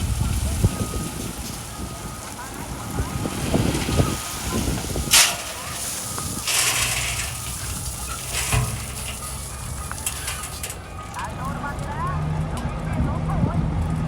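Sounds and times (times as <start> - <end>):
diesel construction machinery running: 0.0 - 14.0.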